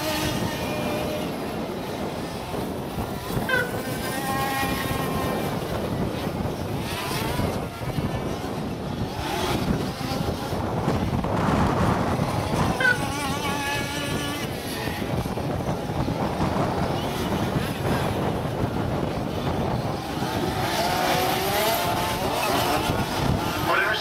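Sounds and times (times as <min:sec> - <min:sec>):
small two-stroke engines revving: 0:00.0 - 0:24.0.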